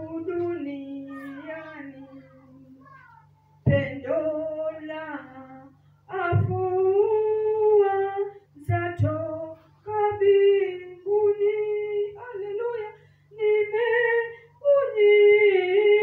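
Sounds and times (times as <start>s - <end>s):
woman singing into microphone: 0.0s - 2.6s, 3.6s - 16.0s
steady low hum: 0.0s - 16.0s.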